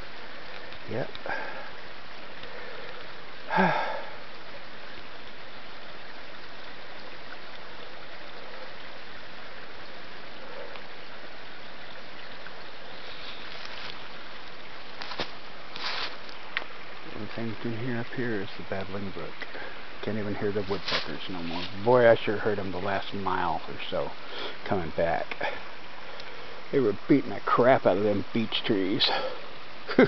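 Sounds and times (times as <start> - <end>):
water burbling over stones: 0.0 - 30.0.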